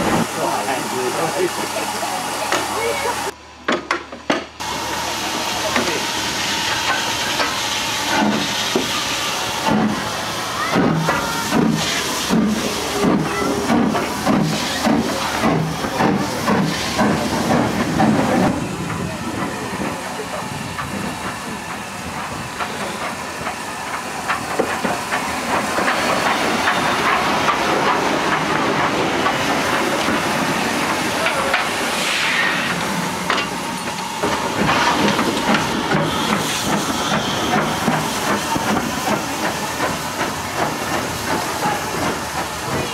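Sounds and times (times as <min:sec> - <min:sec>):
steam hissing: 0:00.0 - 0:03.4, 0:04.6 - 0:42.9
steam locomotive exhaust beats: 0:04.6 - 0:42.9.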